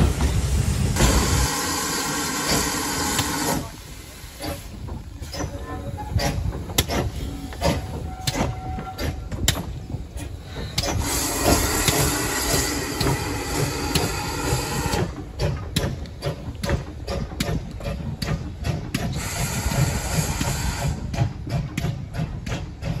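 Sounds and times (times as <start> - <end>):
steam engine clanks and chuffs: 0.0 - 23.0
steam hissing: 0.0 - 23.0.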